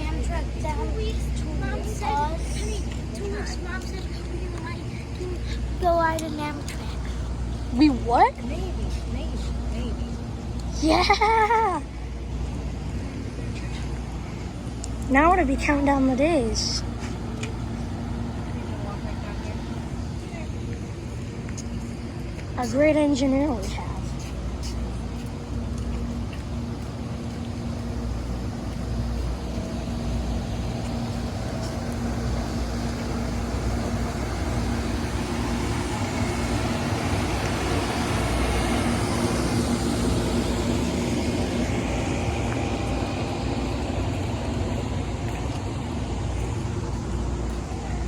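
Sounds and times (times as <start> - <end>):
constant hum: 0.0 - 48.0
diesel locomotive idling: 0.0 - 48.0.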